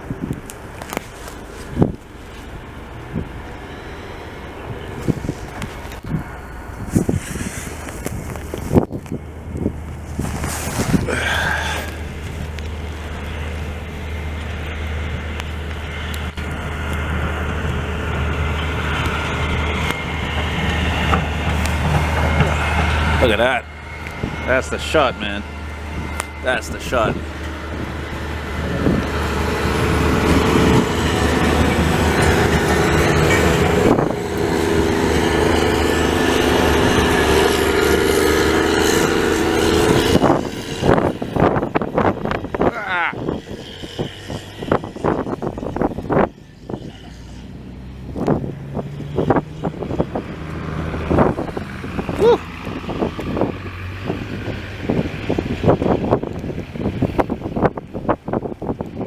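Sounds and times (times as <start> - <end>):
diesel engine hum: 0.0 - 59.0
road noise: 0.0 - 59.0.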